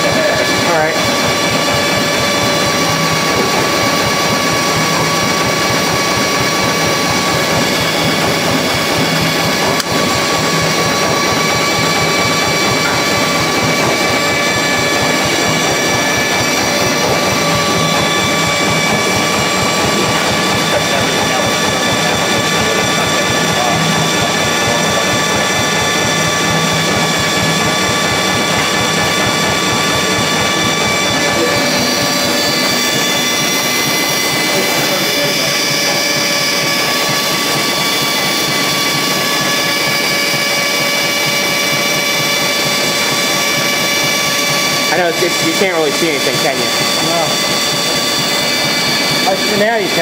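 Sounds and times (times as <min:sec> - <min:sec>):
generator running: 0:00.0 - 0:50.0
steady multi-tone whine: 0:00.0 - 0:50.0.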